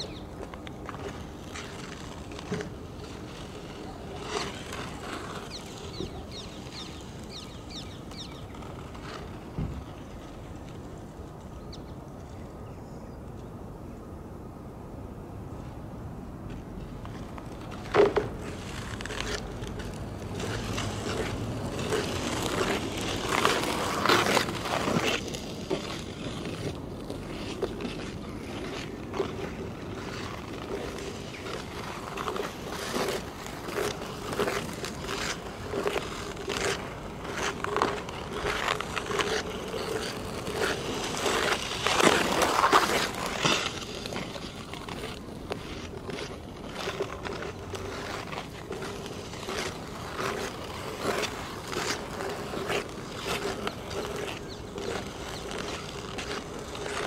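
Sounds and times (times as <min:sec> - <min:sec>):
ice skate blades scraping on ice: 0:00.0 - 0:11.6, 0:16.5 - 0:57.0.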